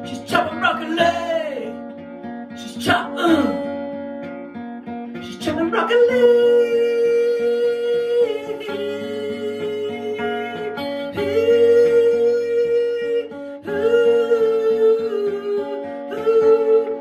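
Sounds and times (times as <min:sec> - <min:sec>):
man singing without words: 0:00.0 - 0:01.9, 0:02.5 - 0:03.8, 0:05.2 - 0:17.0
acoustic guitar strumming: 0:00.0 - 0:17.0.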